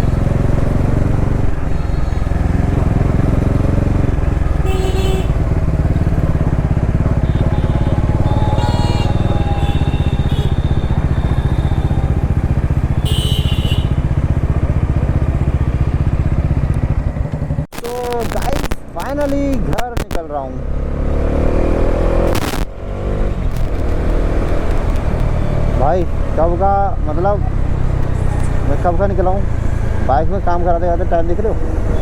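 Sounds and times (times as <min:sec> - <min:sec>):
motorcycle engine running: 0:00.0 - 0:20.2, 0:21.6 - 0:32.0.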